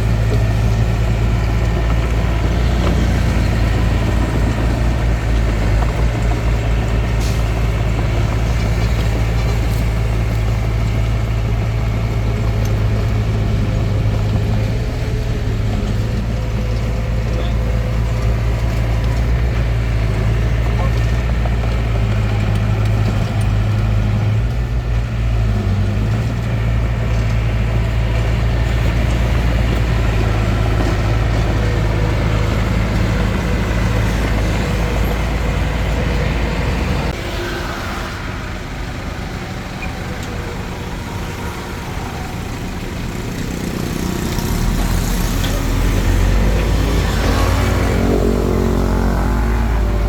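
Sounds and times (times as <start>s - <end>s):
bulldozer diesel engine hum: 0.0s - 50.0s.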